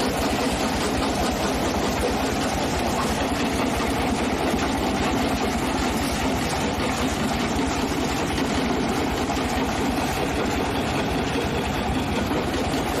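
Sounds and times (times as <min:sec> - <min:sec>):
heavy machine engine throbbing: 0:00.0 - 0:13.0.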